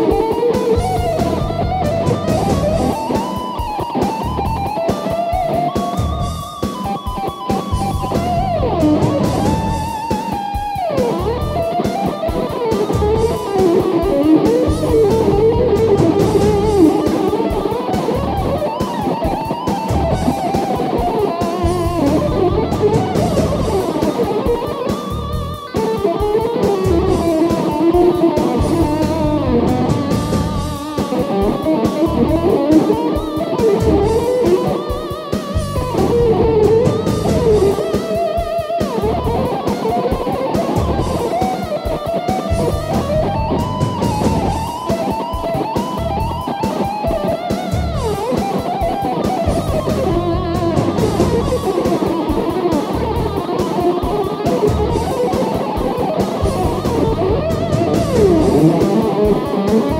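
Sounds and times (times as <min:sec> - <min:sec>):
electric guitar solo: 0:00.0 - 0:59.9.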